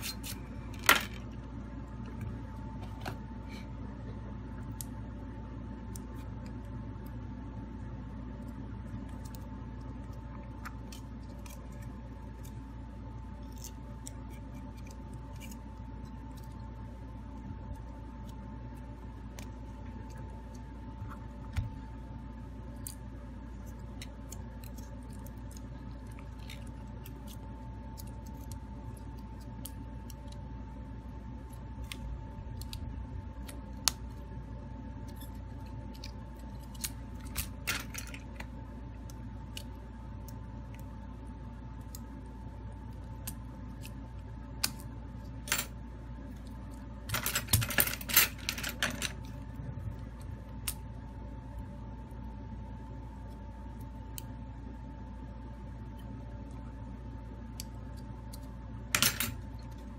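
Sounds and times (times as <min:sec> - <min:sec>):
steady hum with high whine: 0:00.0 - 0:59.9.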